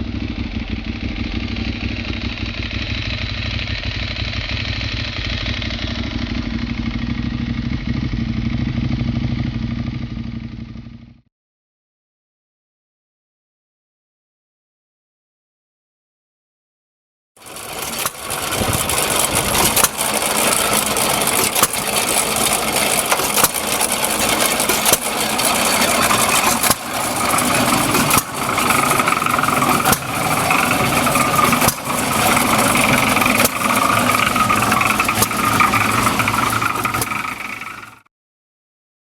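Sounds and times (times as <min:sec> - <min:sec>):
motorcycle engine running loudly: 0:00.0 - 0:11.3, 0:17.4 - 0:38.1.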